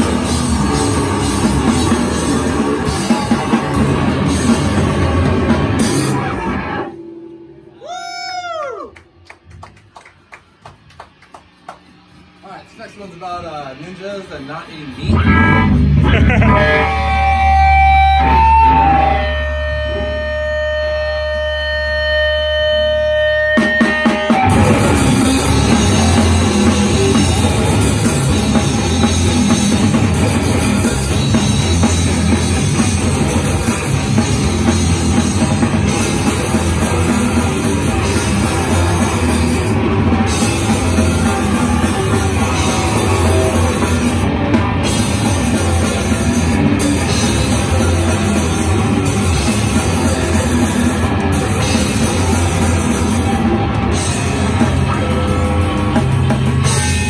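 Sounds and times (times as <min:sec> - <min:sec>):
electronic drone: 0:00.0 - 0:07.9, 0:14.4 - 0:57.0
heavy rock band playing: 0:00.0 - 0:09.3, 0:11.4 - 0:57.0.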